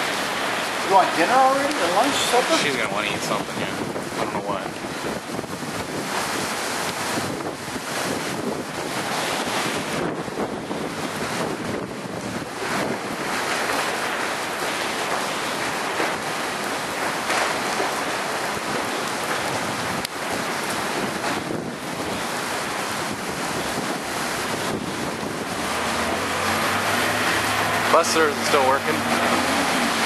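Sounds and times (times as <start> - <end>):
strong wind on microphone: 0.0 - 30.0.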